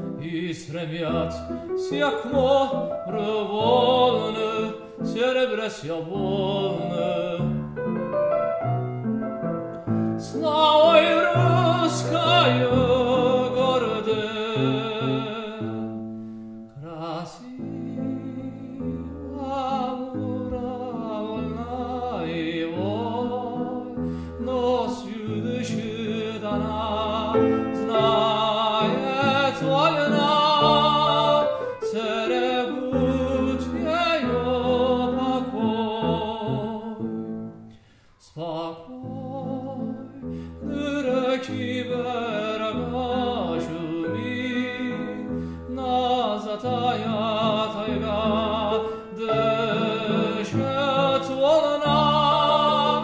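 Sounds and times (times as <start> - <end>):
man singing with vibrato: 0.0 - 8.3, 10.2 - 16.0, 16.7 - 37.5, 38.2 - 53.0
grand piano accompaniment: 0.0 - 53.0.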